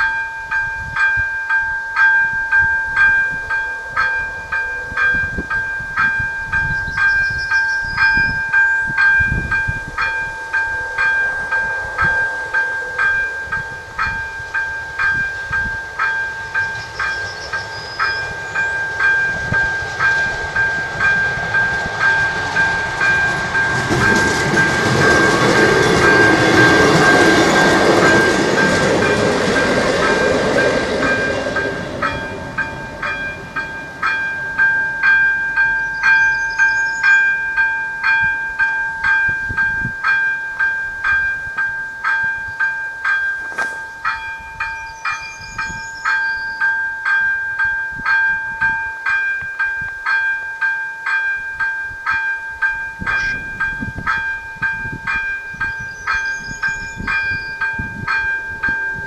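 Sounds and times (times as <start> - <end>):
level crossing bell ringing: 0.0 - 17.2, 18.0 - 59.0
diesel railcar rumble: 0.0 - 59.0.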